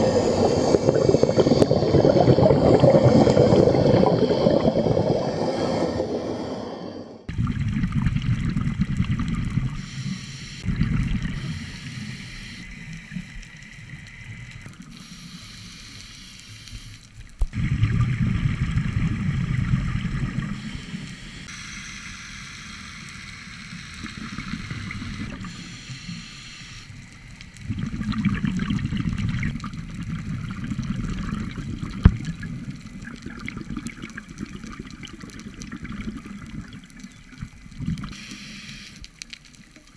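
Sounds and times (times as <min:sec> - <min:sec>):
underwater regulator bubbles: 0:00.0 - 0:21.5, 0:23.5 - 0:39.9.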